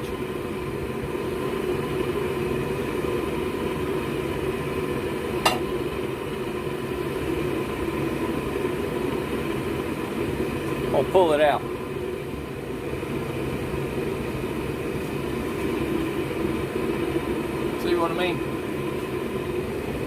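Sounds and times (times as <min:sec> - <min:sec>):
forge burners rushing: 0:00.0 - 0:20.0.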